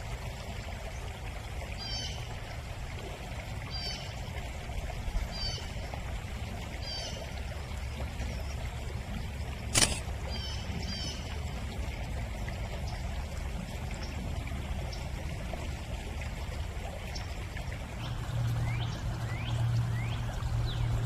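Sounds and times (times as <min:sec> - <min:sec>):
low steady hum: 0:00.0 - 0:21.0
water trickling in a channel: 0:00.0 - 0:21.0.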